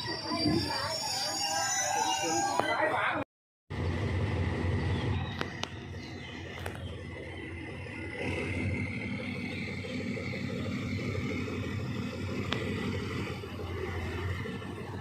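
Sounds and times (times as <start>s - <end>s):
train rumbling on track: 0.0s - 2.6s, 3.7s - 15.0s.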